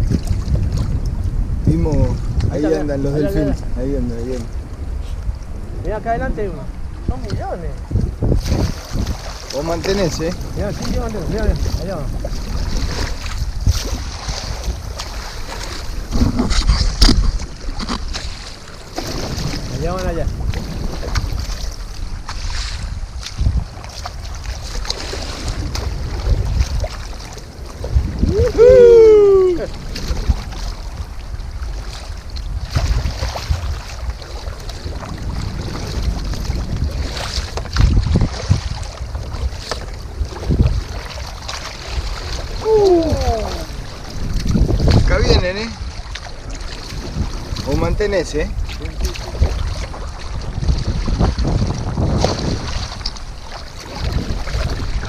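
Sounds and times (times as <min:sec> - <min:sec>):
water slapping and splashing: 0:00.0 - 0:55.0
wind buffeting microphone: 0:00.0 - 0:55.0.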